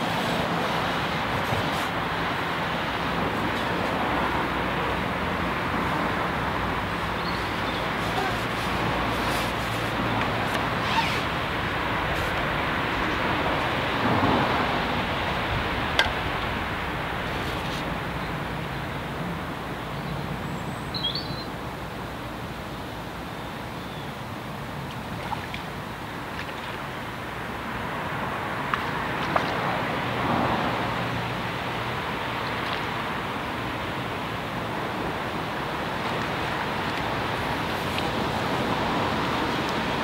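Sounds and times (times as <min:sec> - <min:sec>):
outdoor background rumble and hiss: 0:00.0 - 0:40.0.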